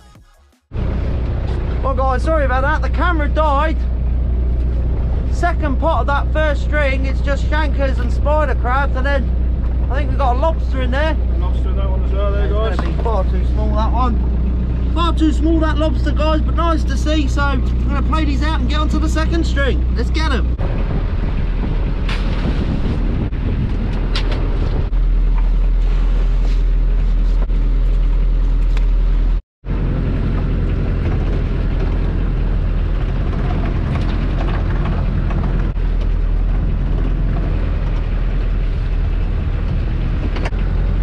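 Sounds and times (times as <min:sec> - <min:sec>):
boat engine running: 0:00.7 - 0:41.0
wind rumble on microphone: 0:00.7 - 0:41.0.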